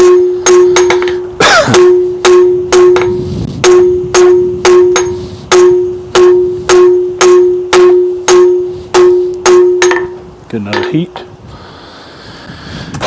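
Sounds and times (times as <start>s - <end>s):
anvil ringing: 0.0s - 11.1s
hammer striking hot steel: 0.0s - 11.1s.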